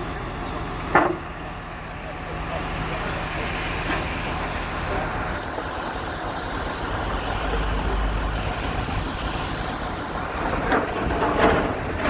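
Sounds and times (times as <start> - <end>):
motor vehicle engine rumble: 0.0 - 12.0
outdoor noise: 0.0 - 12.0.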